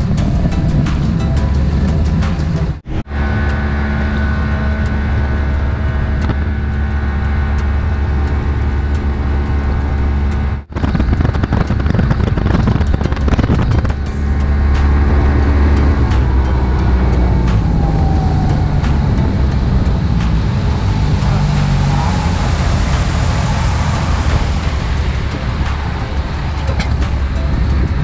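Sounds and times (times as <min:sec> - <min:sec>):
boat motor droning: 0:00.0 - 0:28.0.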